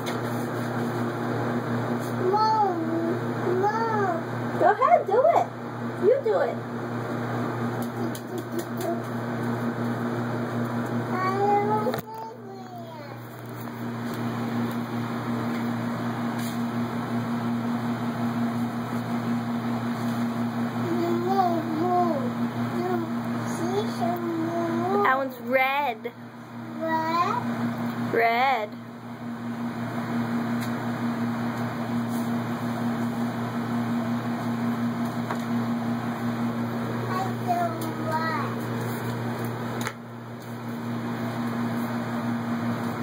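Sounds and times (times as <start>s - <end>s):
low machine hum: 0.0s - 43.0s.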